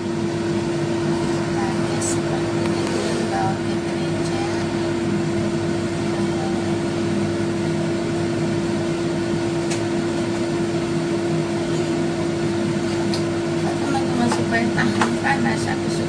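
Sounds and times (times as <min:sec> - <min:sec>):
electric fan motor hum: 0:00.0 - 0:16.0.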